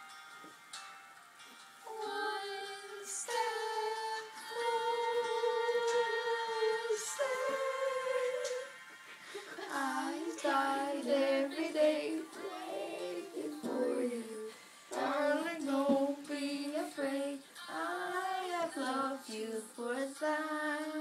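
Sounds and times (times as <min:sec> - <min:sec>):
children singing: 0:01.9 - 0:21.0.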